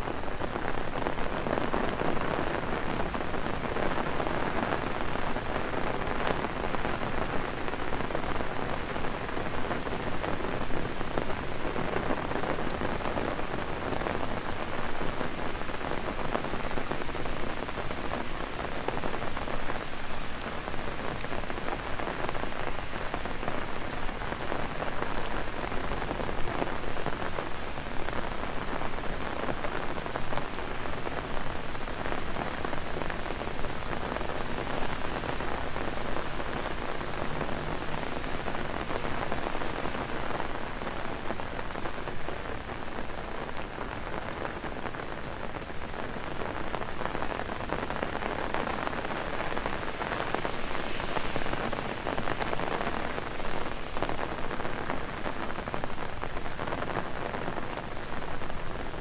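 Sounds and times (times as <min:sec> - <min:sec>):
heavy rain on an umbrella: 0:00.0 - 0:59.0.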